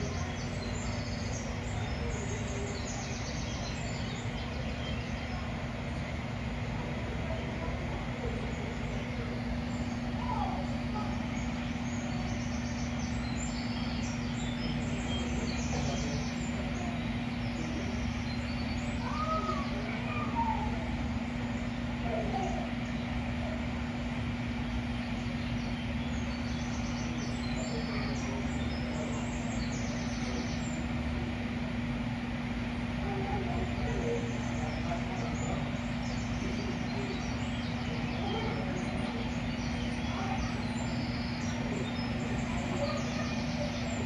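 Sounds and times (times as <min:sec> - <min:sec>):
faint bird chirps: 0:00.0 - 0:44.0
steady low hum: 0:00.0 - 0:44.0.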